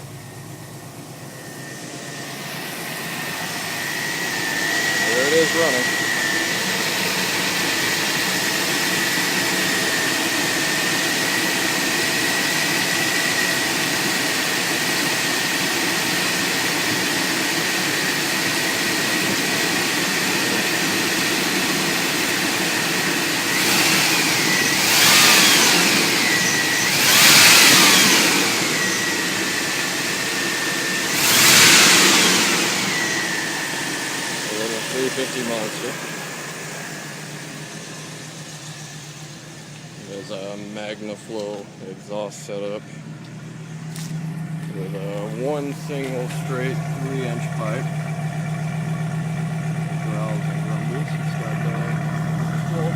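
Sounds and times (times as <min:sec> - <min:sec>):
engine revving: 0:00.0 - 0:41.6, 0:43.4 - 0:52.9
truck engine idling: 0:00.0 - 0:52.9.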